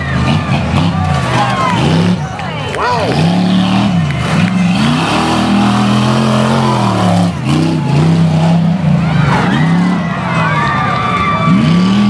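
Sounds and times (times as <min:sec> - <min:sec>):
truck engine revving: 0:00.0 - 0:12.0
tyres spinning on dirt: 0:00.0 - 0:12.0.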